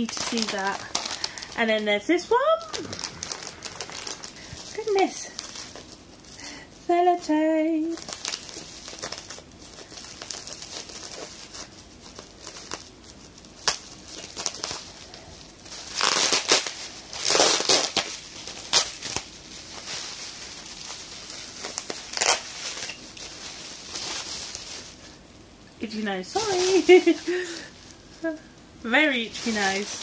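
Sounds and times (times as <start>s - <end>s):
bubble wrap crinkling: 0.0s - 30.0s.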